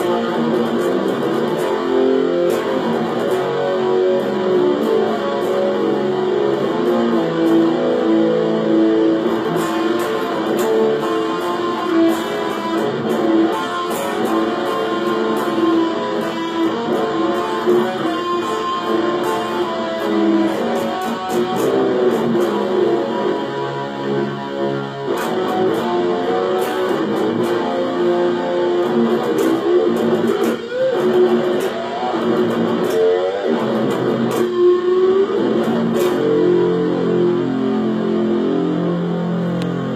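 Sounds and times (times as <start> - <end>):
electric guitar sustained notes: 0.0 - 39.9.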